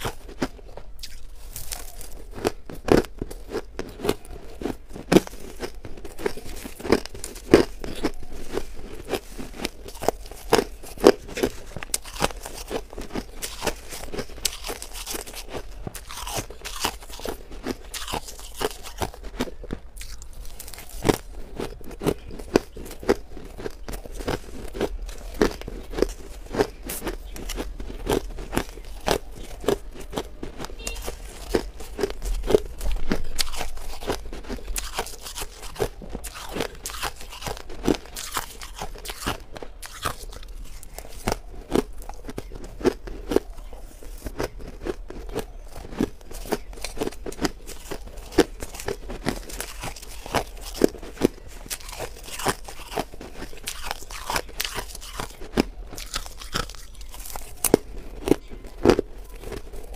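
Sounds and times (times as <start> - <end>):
frost being crunched and chewed: 0.0 - 59.9.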